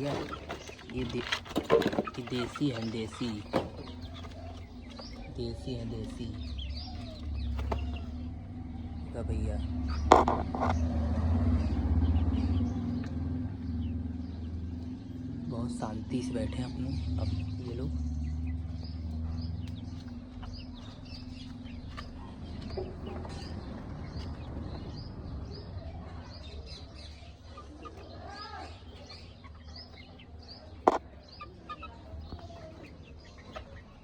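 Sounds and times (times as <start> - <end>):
chickens chirping: 0.0 - 34.0
chickens clucking: 0.0 - 34.0.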